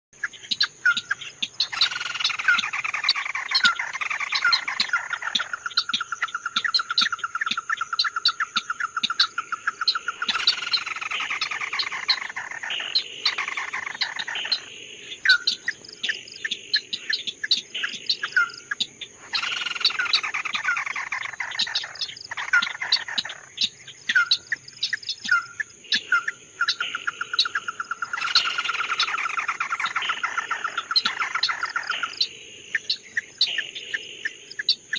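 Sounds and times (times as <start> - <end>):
songbird singing trills: 0.2 - 34.9
high insect drone: 1.2 - 34.9.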